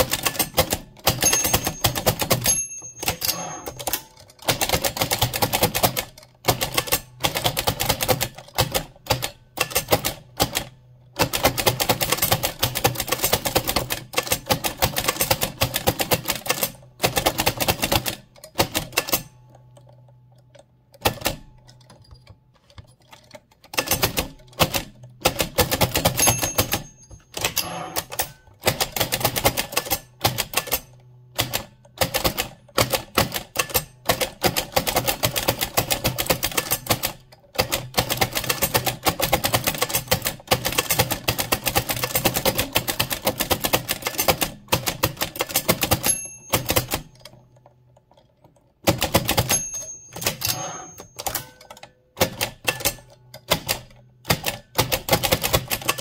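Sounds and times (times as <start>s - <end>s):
typewriter clacking: 0.0s - 19.4s, 21.0s - 47.4s, 48.8s - 56.0s.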